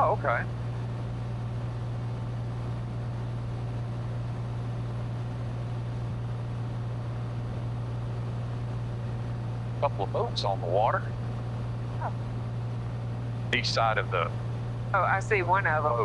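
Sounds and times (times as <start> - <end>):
airplane cabin engine drone: 0.0 - 16.0.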